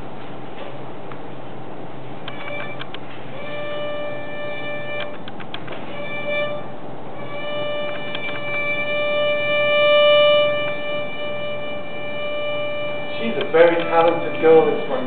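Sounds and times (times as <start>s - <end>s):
violin sustained note: 2.2s - 15.0s.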